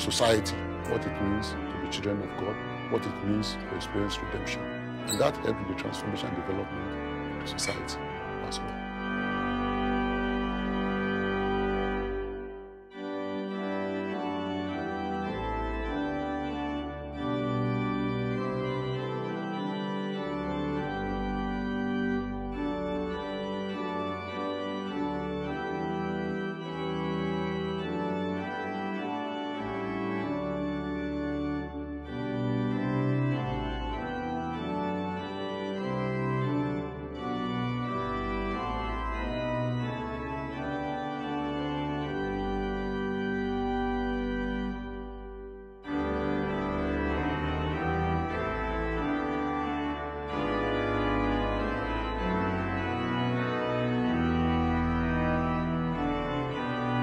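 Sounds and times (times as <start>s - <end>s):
organ playing sustained chords: 0.0s - 57.0s.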